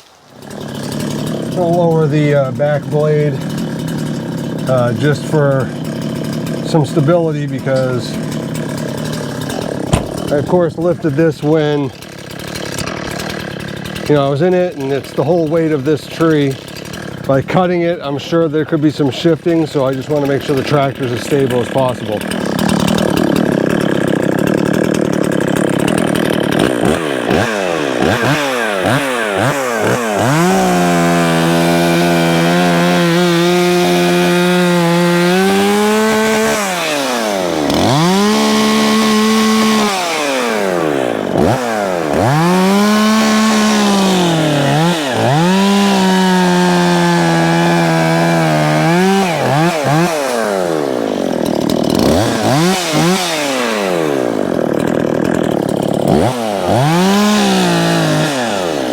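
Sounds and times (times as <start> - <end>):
chainsaw idling: 0.0 - 58.9
chainsaw revving and cutting wood: 0.0 - 58.9.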